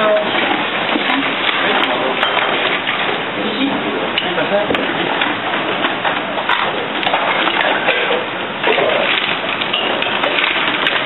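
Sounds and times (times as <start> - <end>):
steady kitchen hiss: 0.0 - 11.0
utensils and pans clinking: 0.0 - 11.0.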